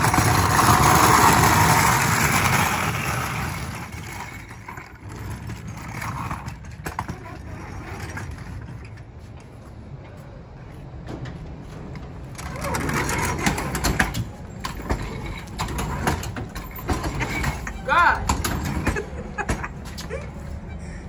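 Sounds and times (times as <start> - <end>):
cart frame rattling and knocking: 0.0 - 9.1, 11.1 - 20.2
cart wheels rumbling on pavement: 0.0 - 21.0.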